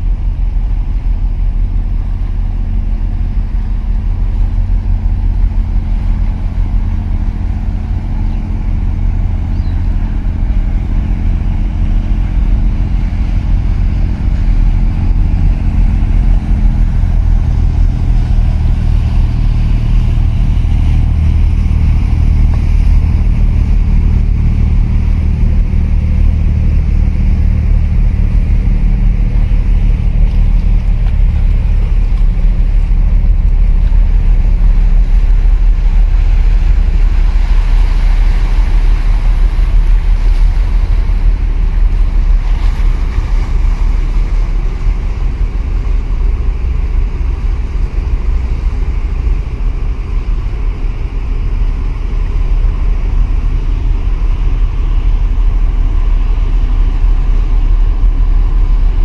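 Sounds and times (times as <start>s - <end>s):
ship engine drone: 0.0s - 59.0s.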